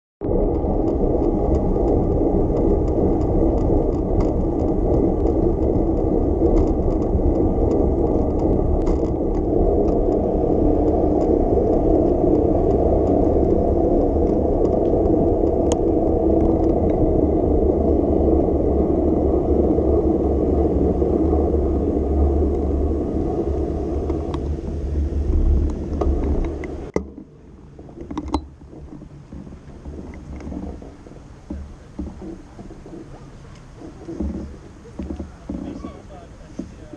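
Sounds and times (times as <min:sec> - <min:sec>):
bicycle clicks and rattles: 0:00.2 - 0:19.8, 0:20.4 - 0:36.9
bicycle road and wind noise: 0:00.2 - 0:36.9.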